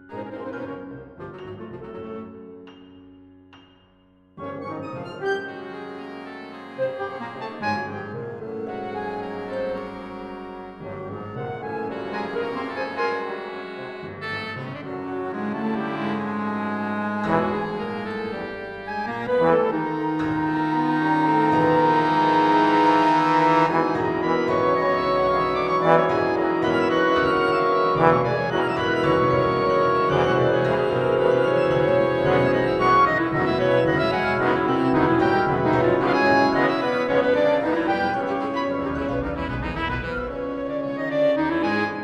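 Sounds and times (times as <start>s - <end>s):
wind ensemble playing sustained chords: 4.9s - 42.0s.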